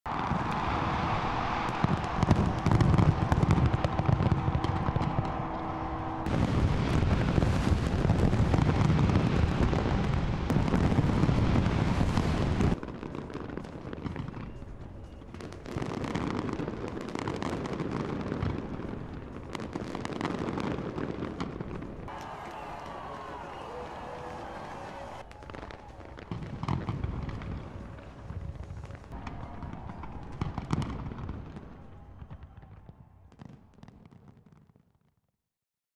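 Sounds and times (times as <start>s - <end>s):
fireworks booming and crackling: 0.1s - 35.2s.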